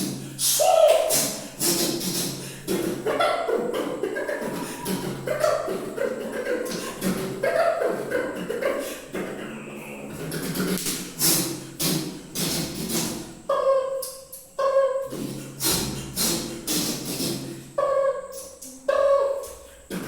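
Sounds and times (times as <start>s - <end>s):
man beatboxing: 0.0s - 20.0s.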